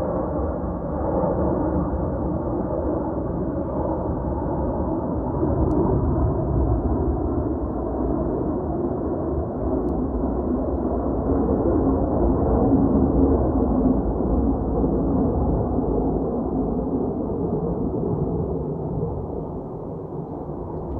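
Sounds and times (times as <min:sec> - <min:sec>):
jets flying overhead: 0:00.0 - 0:20.9.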